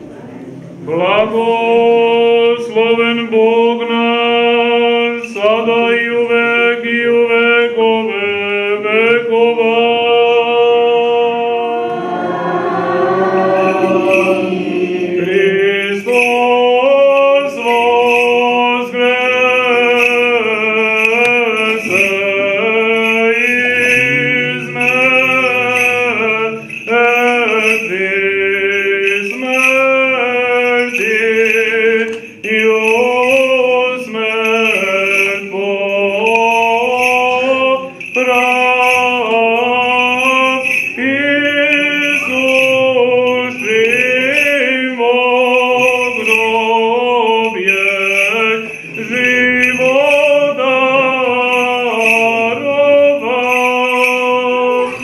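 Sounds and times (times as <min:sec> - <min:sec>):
choir singing a chant: 0:00.7 - 0:55.0.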